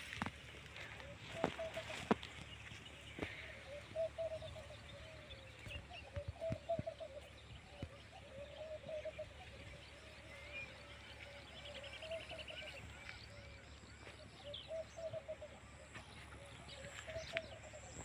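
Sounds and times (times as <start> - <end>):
low wavering bird calls: 0.0 - 18.0.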